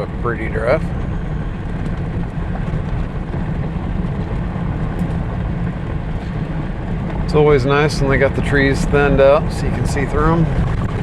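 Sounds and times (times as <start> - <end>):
engine and road noise drone: 0.0 - 11.0.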